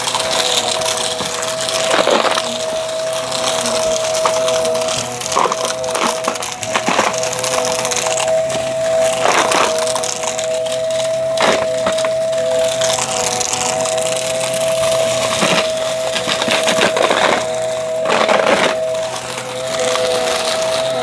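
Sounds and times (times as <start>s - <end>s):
debris crunching through vacuum: 0.0s - 21.0s
vacuum cleaner motor whine: 0.0s - 21.0s.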